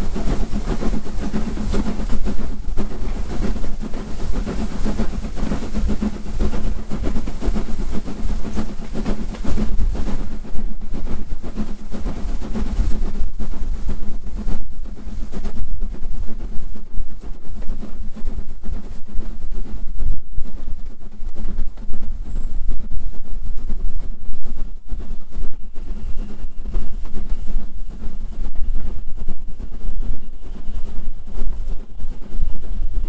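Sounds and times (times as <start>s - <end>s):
steam locomotive exhaust beats: 0.0s - 33.0s.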